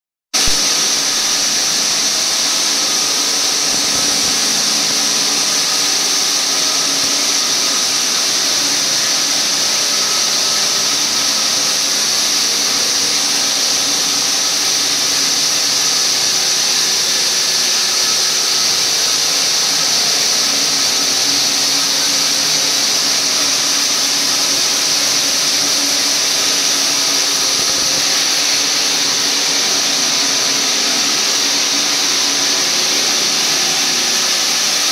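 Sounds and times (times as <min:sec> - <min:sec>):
mechanical drone: 0:00.4 - 0:34.9
sawing machine high-pitched hiss: 0:00.4 - 0:34.9.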